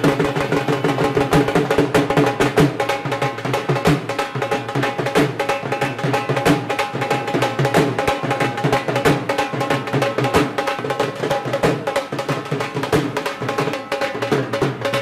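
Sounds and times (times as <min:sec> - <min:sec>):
drums playing fast beat: 0:00.0 - 0:15.0.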